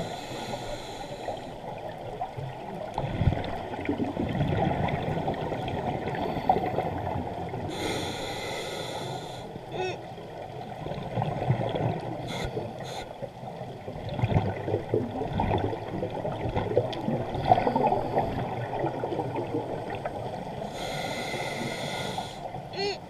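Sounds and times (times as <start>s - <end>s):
regulator bubbles gurgling underwater: 0.0s - 22.8s.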